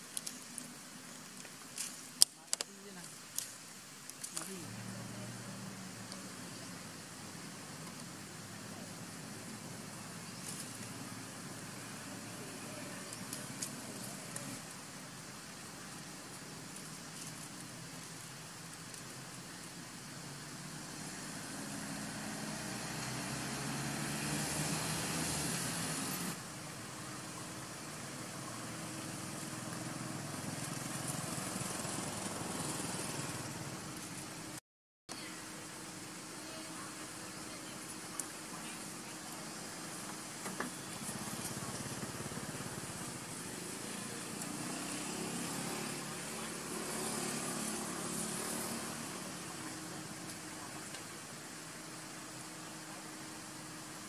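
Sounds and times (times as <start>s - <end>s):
steady high hiss: 0.0s - 54.0s
engine humming: 4.2s - 54.0s
vehicles passing on road: 4.4s - 34.6s, 35.2s - 54.0s.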